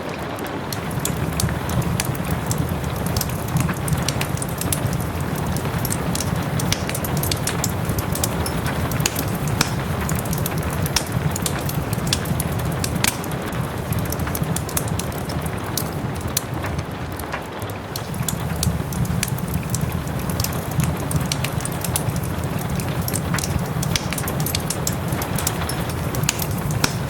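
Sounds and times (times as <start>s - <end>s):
soft rain: 0.0s - 27.0s
wood fire crackling and popping: 0.0s - 27.0s.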